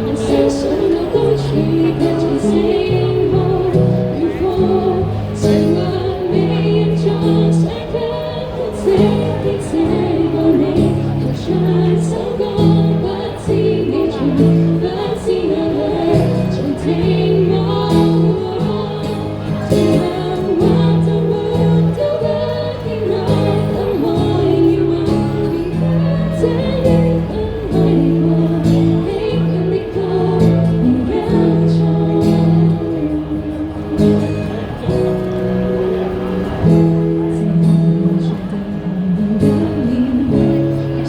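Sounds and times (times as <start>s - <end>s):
person singing: 0.0s - 35.0s, 36.9s - 41.0s.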